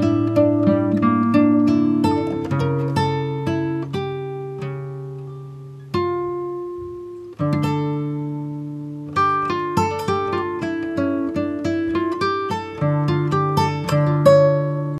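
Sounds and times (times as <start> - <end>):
strummed guitar music: 0.0 - 14.9.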